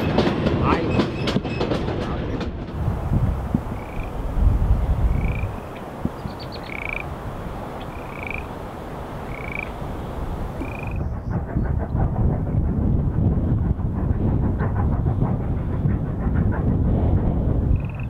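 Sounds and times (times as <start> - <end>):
low rumble: 0.0 - 18.0
steady rushing background: 0.0 - 18.0
train wheels clicking over rails: 0.0 - 18.0.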